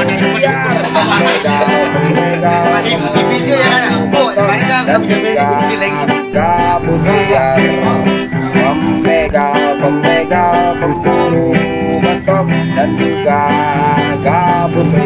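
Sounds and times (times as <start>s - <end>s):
plucked strings music: 0.0s - 15.0s.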